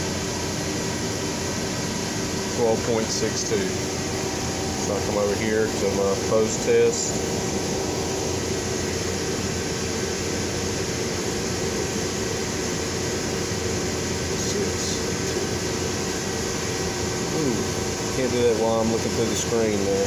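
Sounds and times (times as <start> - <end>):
air conditioning rushing: 0.0 - 20.0.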